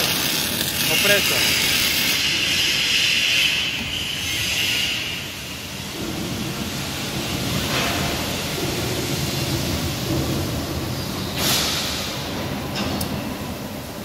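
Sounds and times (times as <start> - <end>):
welding machine rumbling: 0.0 - 14.0.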